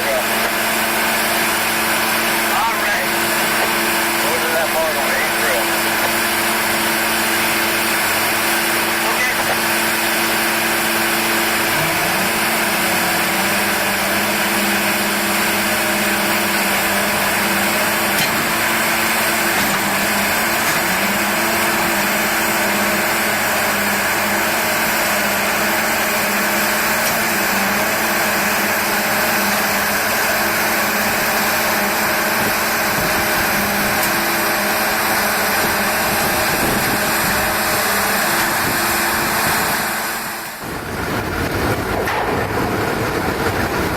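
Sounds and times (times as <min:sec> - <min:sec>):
train engine running: 0:00.0 - 0:43.9.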